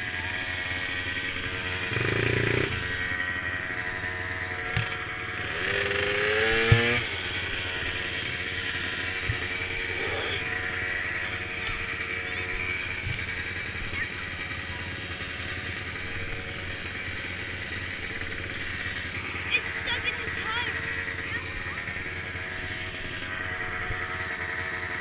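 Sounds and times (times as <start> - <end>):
engine revving whine: 0.0 - 25.0
quad engines running: 0.0 - 25.0.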